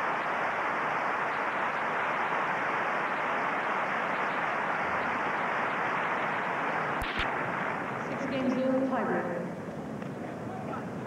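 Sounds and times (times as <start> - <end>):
steady static hiss: 0.0 - 11.0.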